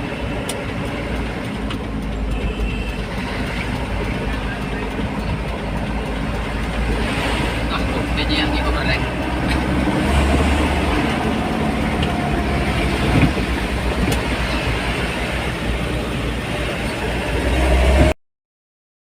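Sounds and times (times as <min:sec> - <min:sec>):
truck engine running: 0:00.0 - 0:18.2.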